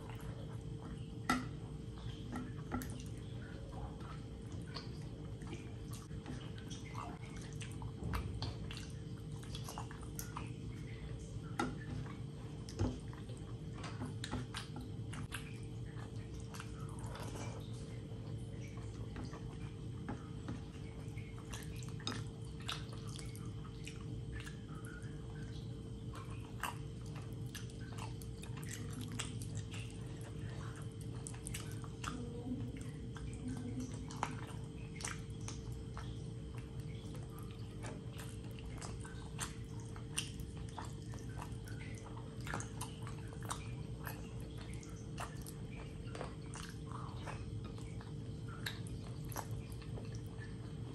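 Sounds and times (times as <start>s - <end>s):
chewing: 0.0s - 50.9s
faint steady hum: 0.0s - 50.9s
wet sticky hand mixing rice: 0.0s - 50.9s.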